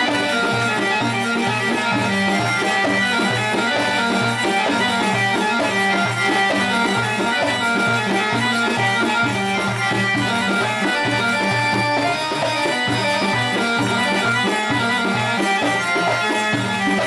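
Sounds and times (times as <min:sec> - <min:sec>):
reedy melody: 0:00.0 - 0:17.0.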